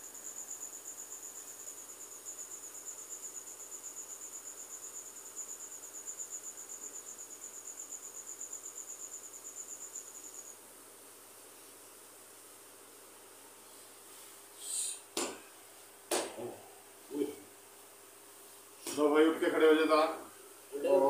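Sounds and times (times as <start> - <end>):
cricket chirping: 0.0 - 18.2.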